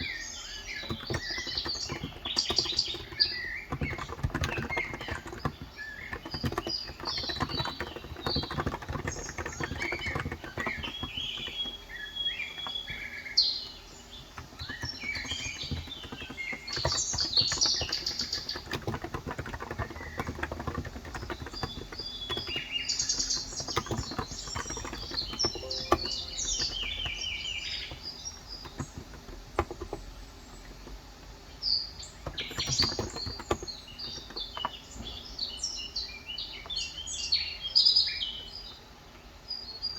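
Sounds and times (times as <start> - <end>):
rapid keyboard typing: 0.0 - 37.0
birds chirping: 0.0 - 39.9.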